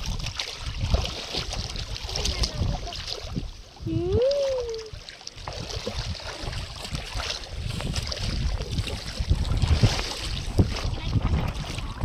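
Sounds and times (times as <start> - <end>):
sloshing seawater: 0.0 - 12.0
wind buffeting microphone: 0.0 - 12.0.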